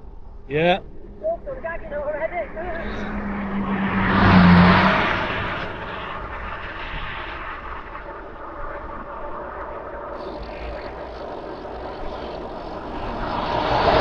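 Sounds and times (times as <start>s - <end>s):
road and wind noise: 0.0s - 14.0s
vehicle passing close by: 0.9s - 14.0s.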